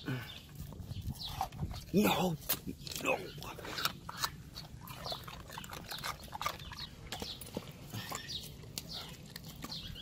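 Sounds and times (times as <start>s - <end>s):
dog chewing watermelon rind: 0.6s - 10.0s.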